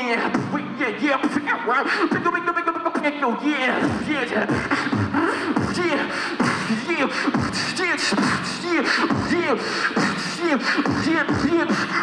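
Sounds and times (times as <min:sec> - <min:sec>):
beatboxing through microphone: 0:00.0 - 0:12.0.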